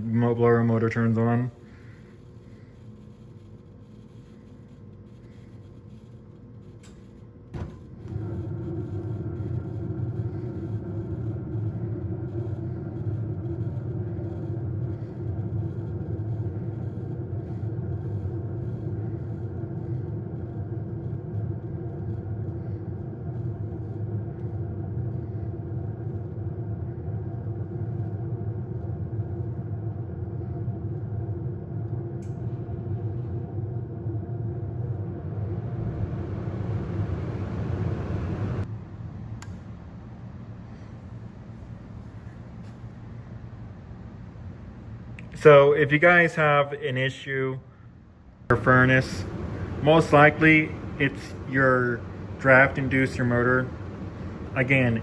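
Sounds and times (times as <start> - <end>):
furnace inducer motor humming: 0.0 - 38.7, 48.4 - 55.0
furnace blower low rumble: 0.0 - 55.0.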